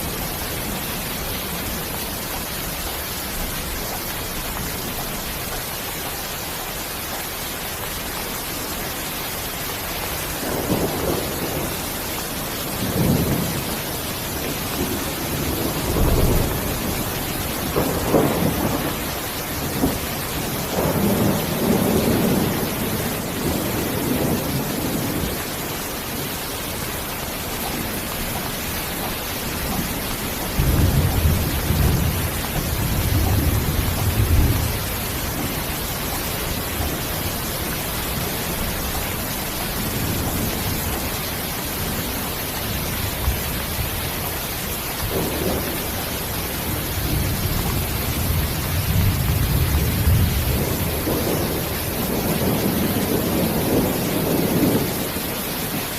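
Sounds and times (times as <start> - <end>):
steady rain: 0.0 - 55.9
thunder rumbling: 10.0 - 55.9.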